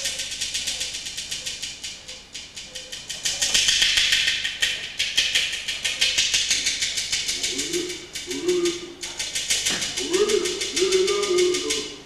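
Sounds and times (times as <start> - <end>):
percussion clicking rattle: 0.0 - 12.0.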